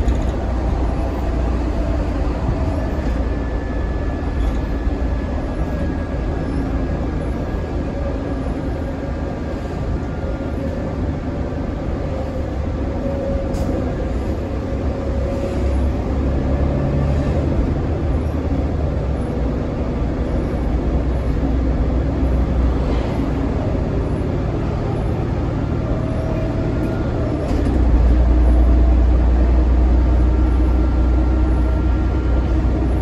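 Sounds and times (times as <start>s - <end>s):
bus engine rumble: 0.0s - 33.0s
road noise: 0.0s - 33.0s.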